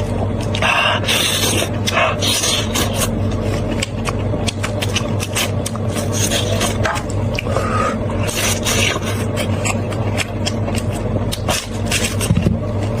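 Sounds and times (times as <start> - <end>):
close chewing: 0.0 - 13.0
steady low hum: 0.0 - 13.0.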